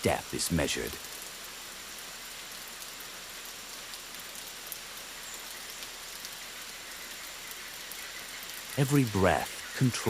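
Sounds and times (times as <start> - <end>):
rain falling on foliage: 0.0 - 10.0.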